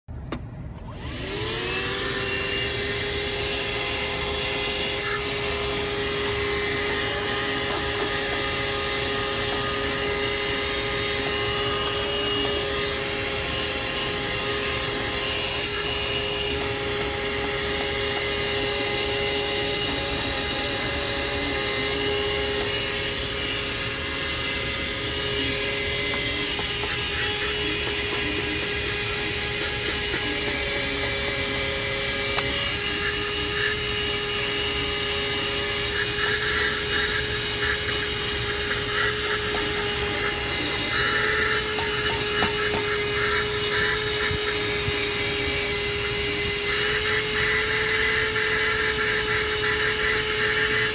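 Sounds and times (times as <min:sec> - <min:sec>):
car vacuum cleaner whine: 0:00.2 - 0:50.9.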